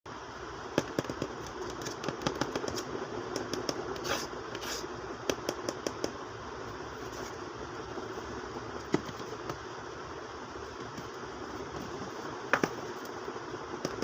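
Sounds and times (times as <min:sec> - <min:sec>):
steady background hum: 0:00.1 - 0:14.0.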